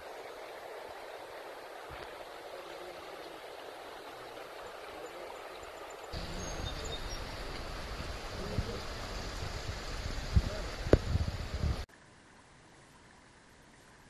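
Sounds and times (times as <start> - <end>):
water rushing over rocks: 0.0 - 11.9.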